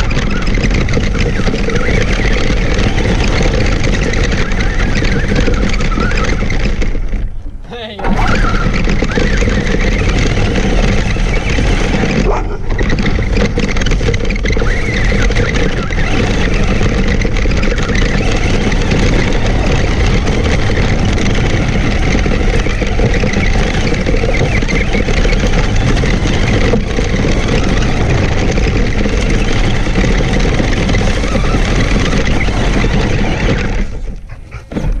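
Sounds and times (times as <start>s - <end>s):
toy truck drivetrain noise: 0.0s - 35.0s
tyres crunching on gravel: 0.0s - 35.0s.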